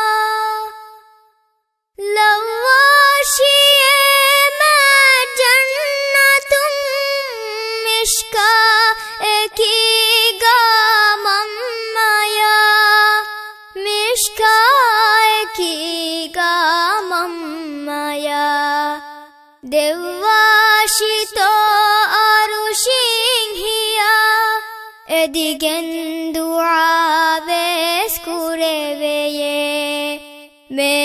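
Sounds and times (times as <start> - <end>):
girl singing: 0.0 - 1.2, 2.0 - 31.0.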